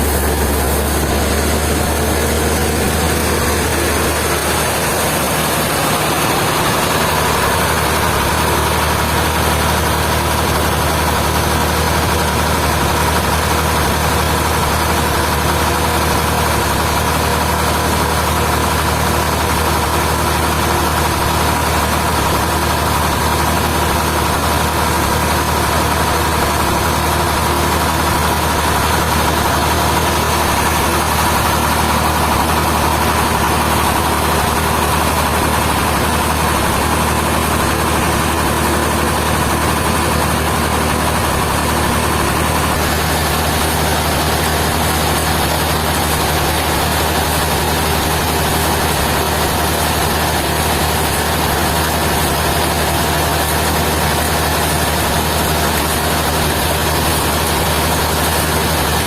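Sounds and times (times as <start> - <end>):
high machine whine: 0.0 - 59.0
sawmill machinery humming: 0.0 - 59.0.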